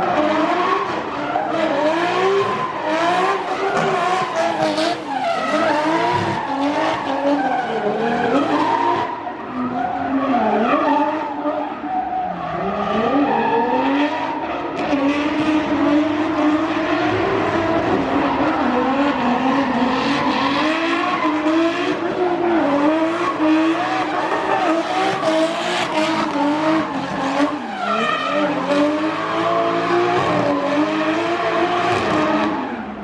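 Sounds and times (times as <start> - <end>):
car engine at high revs: 0.0 - 33.0.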